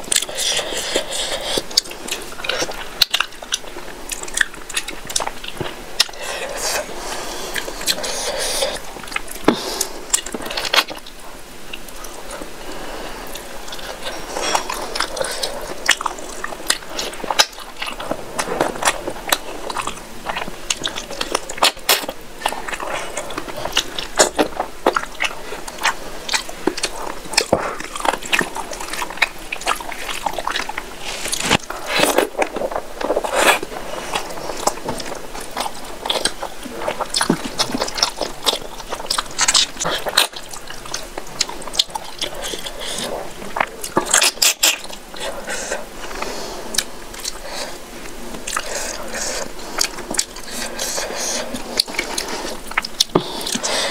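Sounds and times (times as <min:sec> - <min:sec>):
person chewing and lip smacking: 0:00.0 - 0:12.5, 0:13.3 - 0:53.9.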